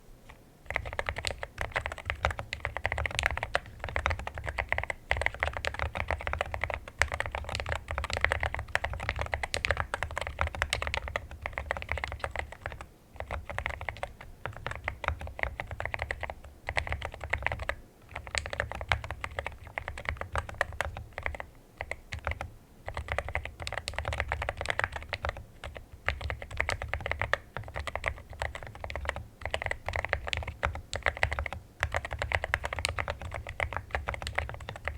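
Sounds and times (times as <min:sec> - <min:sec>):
mechanical keyboard typing: 0:00.7 - 0:34.9.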